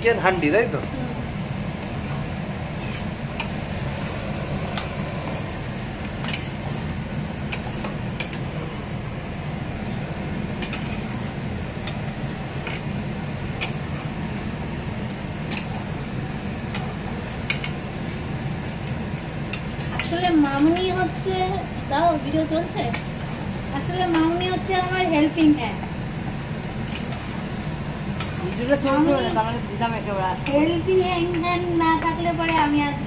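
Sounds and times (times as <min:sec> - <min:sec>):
fan-like hum: 0:00.0 - 0:33.0.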